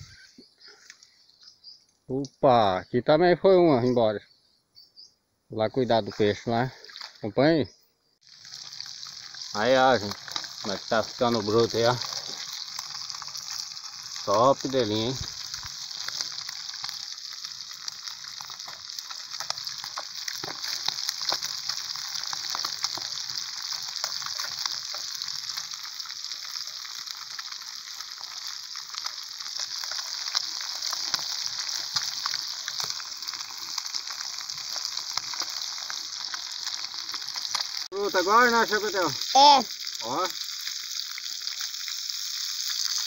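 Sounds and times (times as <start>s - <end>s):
fish deep-frying in hot oil: 8.2s - 43.0s.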